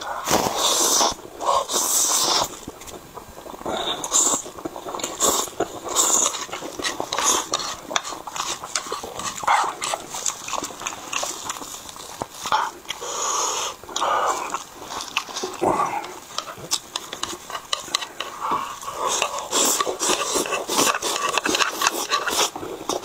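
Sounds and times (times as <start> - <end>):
person slurping and chewing noodles: 0.0 - 23.0.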